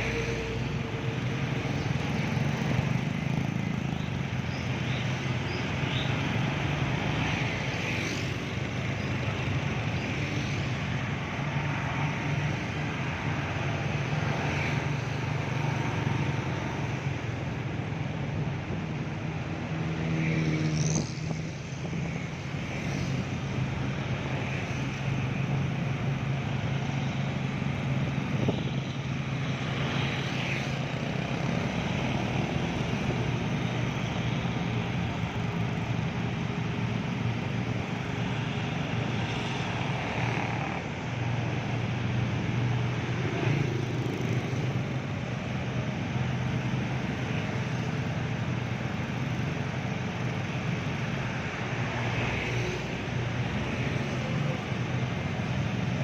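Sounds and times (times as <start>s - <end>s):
constant noisy hiss: 0.0s - 56.0s.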